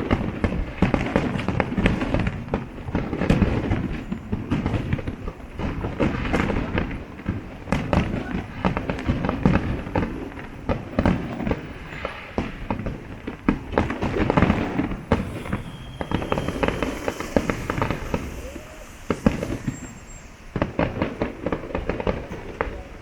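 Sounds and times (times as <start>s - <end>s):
fireworks bangs and pops: 0.0s - 23.0s.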